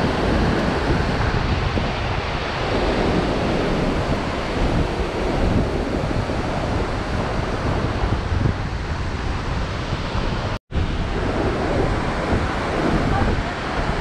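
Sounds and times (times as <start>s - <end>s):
waterfall rushing: 0.0s - 14.0s
wind buffeting microphone: 0.0s - 14.0s.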